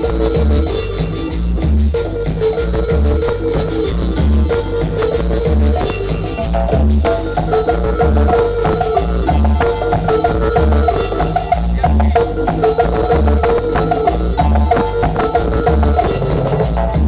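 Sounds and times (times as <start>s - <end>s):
latin dance music with booming bass: 0.0s - 17.0s.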